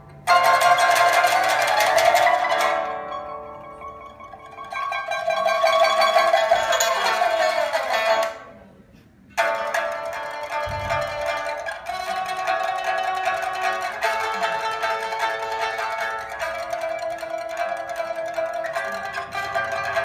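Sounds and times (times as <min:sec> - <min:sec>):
solo pipa playing: 0:00.0 - 0:08.7, 0:09.3 - 0:20.0.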